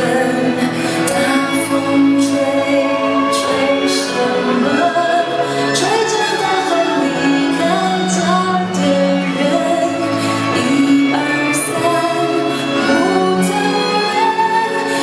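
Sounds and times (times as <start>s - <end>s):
song with singing and instruments: 0.0s - 15.0s.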